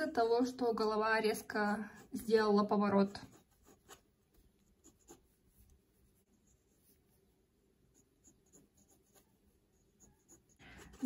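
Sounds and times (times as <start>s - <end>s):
pencil scratching on paper: 1.2s - 11.0s.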